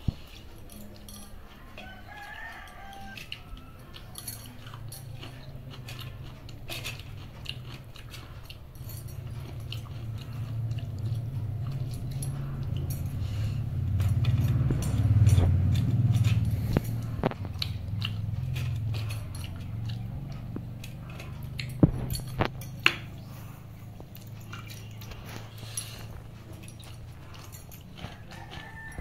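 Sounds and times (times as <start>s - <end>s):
wet chewing and squishing: 0.0s - 29.0s.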